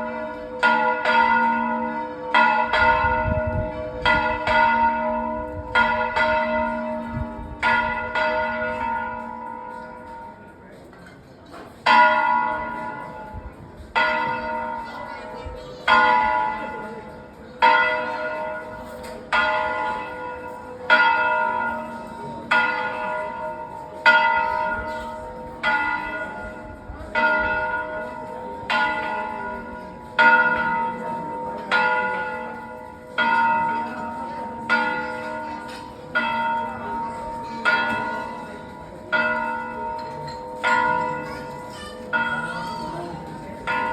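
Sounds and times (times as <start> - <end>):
church bells ringing: 0.0 - 10.6, 11.8 - 43.9.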